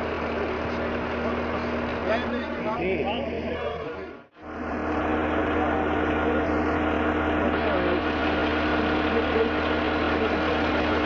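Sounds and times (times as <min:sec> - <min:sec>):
heavy engine running: 0:00.0 - 0:11.0.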